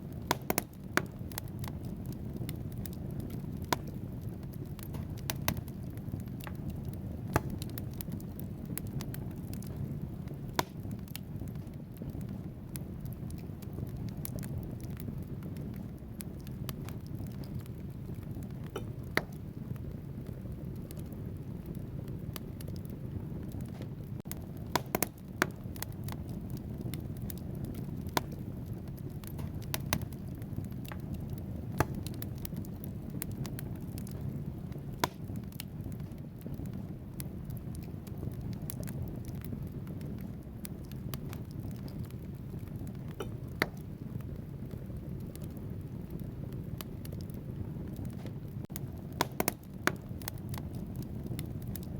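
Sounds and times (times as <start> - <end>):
fire flames rumbling: 0.0 - 51.9
logs crackling and popping: 0.0 - 51.9.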